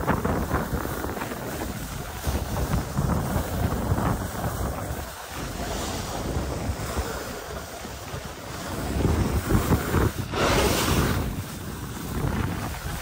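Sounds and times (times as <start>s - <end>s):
skis sliding on snow: 0.0s - 13.0s
wind buffeting microphone: 0.0s - 13.0s.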